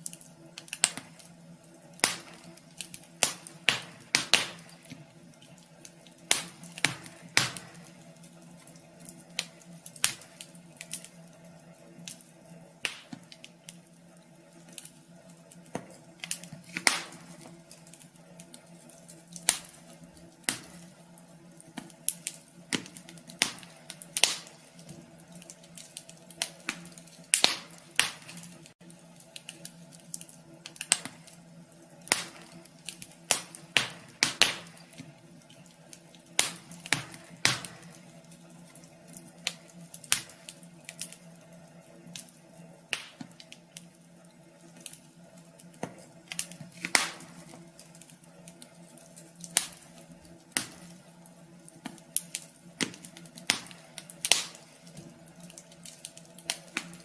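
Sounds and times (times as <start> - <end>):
low steady hum: 0.0 - 57.0
wood fire crackling: 0.0 - 57.0.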